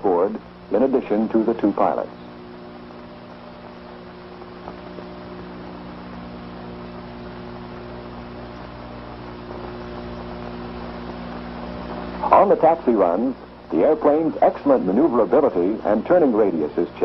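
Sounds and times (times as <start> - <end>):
electrical mains hum: 0.0 - 17.0
film soundtrack hiss: 0.0 - 17.0.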